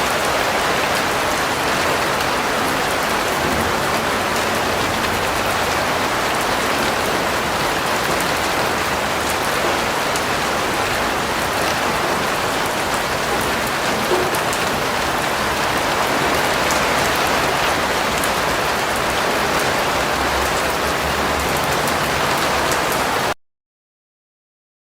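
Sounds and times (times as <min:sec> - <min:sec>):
steady rain falling: 0:00.0 - 0:23.4.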